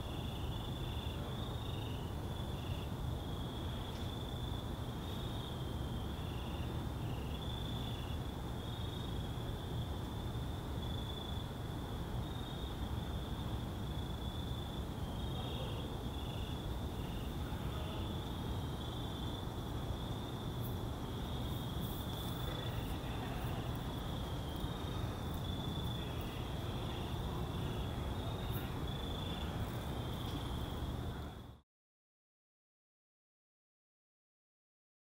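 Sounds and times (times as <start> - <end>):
crickets trilling: 0.0 - 31.6
low rumbling background noise: 0.0 - 31.6
lower cricket chirp: 0.0 - 31.6.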